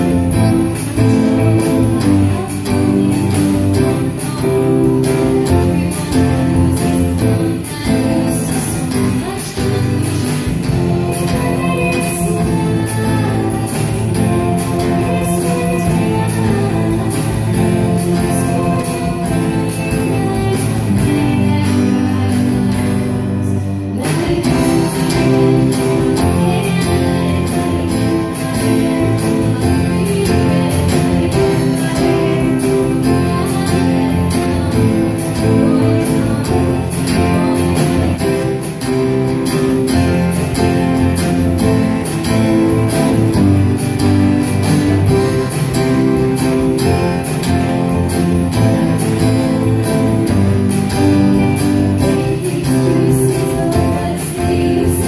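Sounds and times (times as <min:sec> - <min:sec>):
live pop-rock band playing: 0:00.0 - 0:55.0
woman singing: 0:00.0 - 0:55.0.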